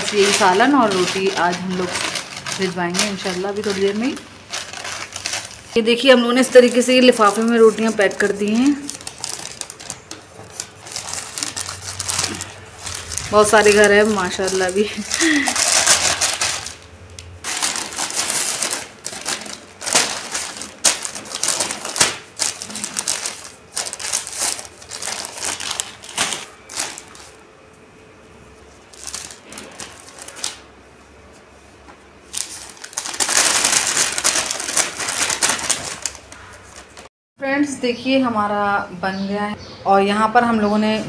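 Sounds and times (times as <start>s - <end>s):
newspaper rustling and crinkling: 0.0s - 27.4s, 28.4s - 37.1s.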